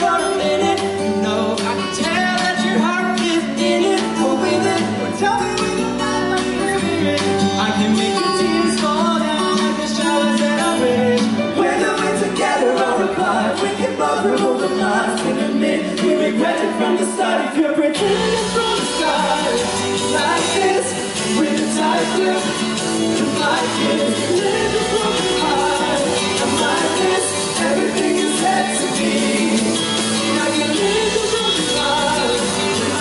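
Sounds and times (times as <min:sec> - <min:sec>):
backing track with bass line: 0:00.0 - 0:33.0
men singing pop into microphones: 0:00.0 - 0:33.0.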